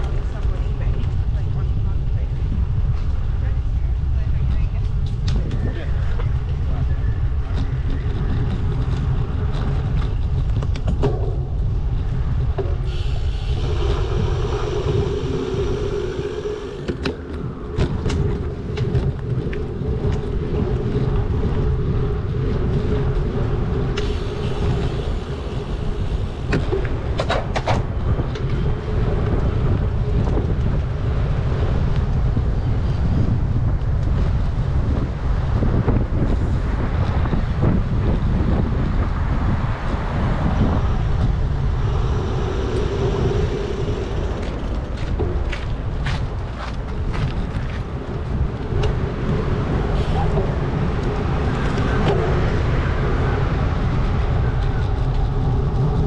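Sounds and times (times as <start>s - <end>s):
vehicle humming: 0.0s - 56.0s
wind rumble on microphone: 0.0s - 56.0s.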